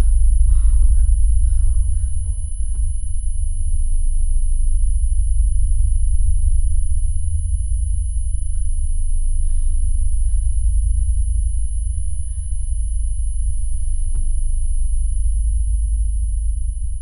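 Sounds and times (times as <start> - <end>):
deep low rumble: 0.0 - 17.0.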